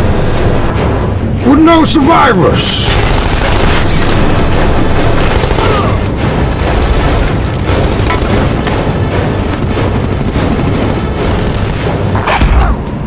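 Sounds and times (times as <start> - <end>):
action film music score: 0.0 - 13.0.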